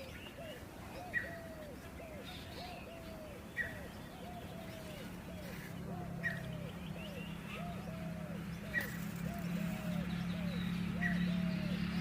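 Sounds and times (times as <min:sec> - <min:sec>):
bird cooing: 0:00.0 - 0:12.0.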